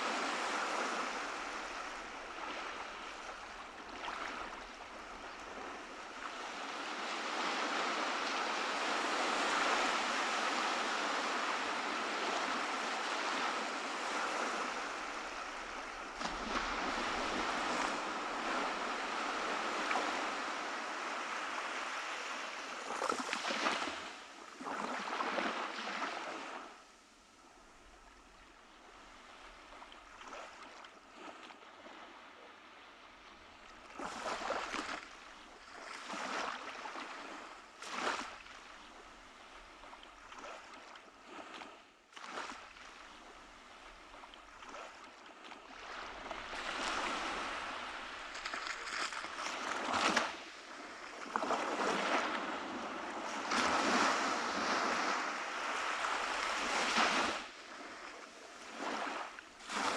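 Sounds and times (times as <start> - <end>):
small waves breaking: 0.0 - 59.9.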